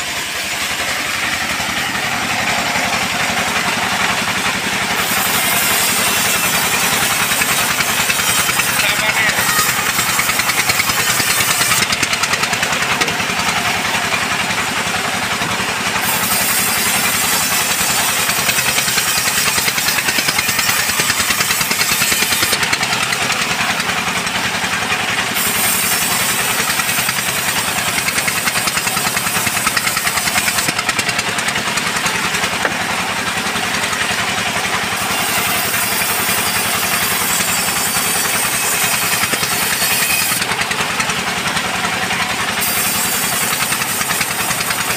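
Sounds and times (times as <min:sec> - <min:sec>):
band saw cutting log: 0:00.0 - 0:44.9.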